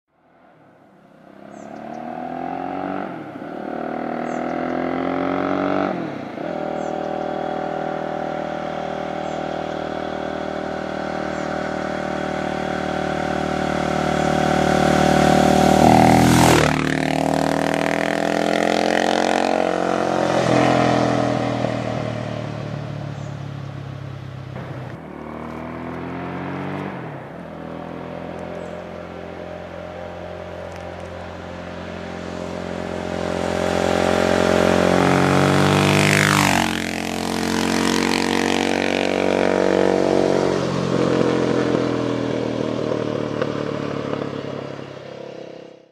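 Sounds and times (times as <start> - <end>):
motorcycle engine accelerating: 0.8 - 45.9.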